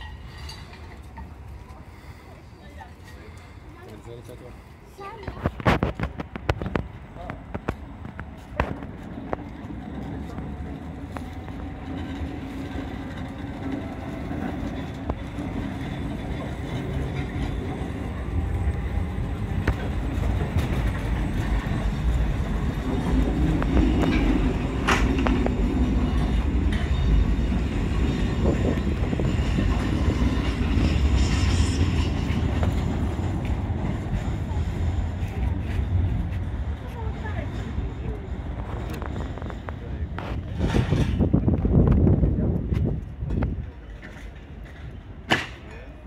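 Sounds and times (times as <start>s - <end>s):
tram rolling on rails: 0.0s - 46.0s.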